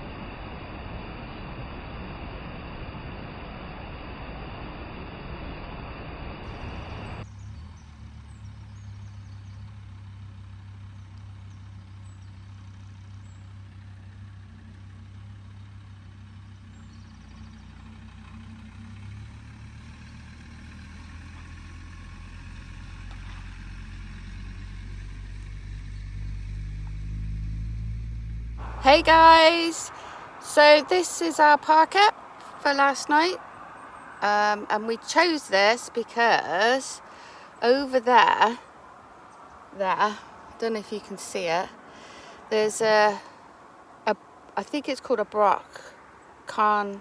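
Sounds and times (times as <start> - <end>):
van engine humming: 6.4 - 47.0.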